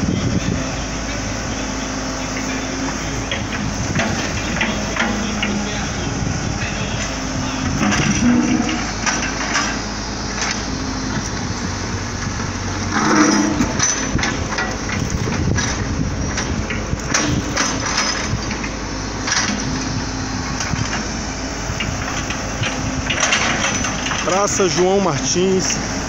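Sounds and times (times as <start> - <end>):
low engine hum: 0.0 - 26.0
street noise: 0.0 - 26.0.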